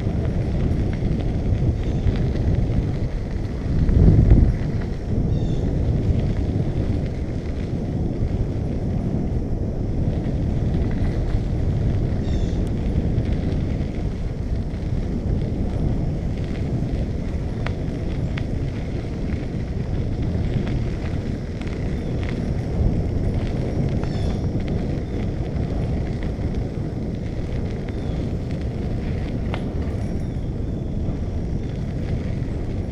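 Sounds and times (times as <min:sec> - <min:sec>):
bicycle tyre noise: 0:00.0 - 0:32.9
wind buffeting microphone: 0:00.0 - 0:32.9.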